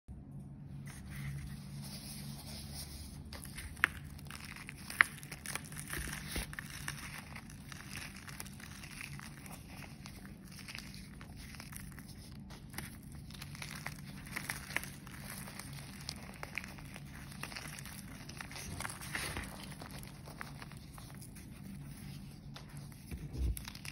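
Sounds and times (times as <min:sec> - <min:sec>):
chalk crunching and crackling: 0:00.7 - 0:23.9.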